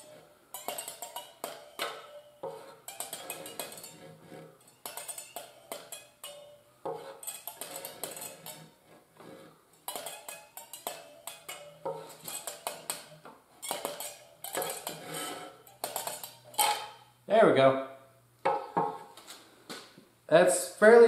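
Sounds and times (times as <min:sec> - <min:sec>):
metal rasp scraping fishing line: 0:00.0 - 0:17.1.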